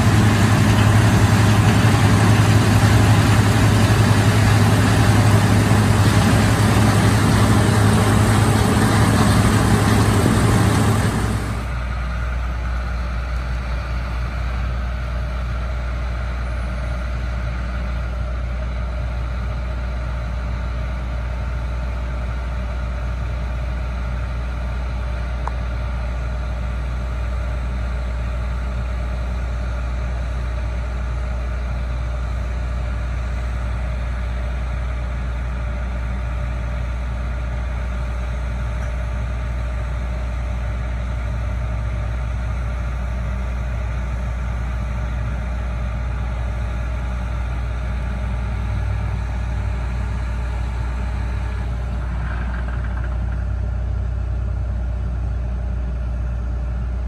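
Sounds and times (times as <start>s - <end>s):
machinery hum: 0.0s - 22.9s, 23.5s - 57.0s
deep diesel drone: 0.0s - 57.0s.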